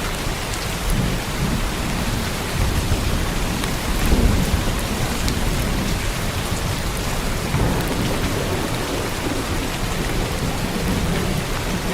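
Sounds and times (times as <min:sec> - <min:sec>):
heavy rain on a roof: 0:00.0 - 0:11.9
low rumble of thunder: 0:00.2 - 0:11.9.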